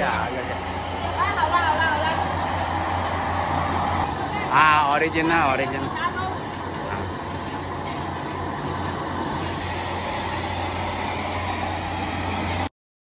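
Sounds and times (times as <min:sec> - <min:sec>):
gas burner roaring: 0:00.0 - 0:12.7.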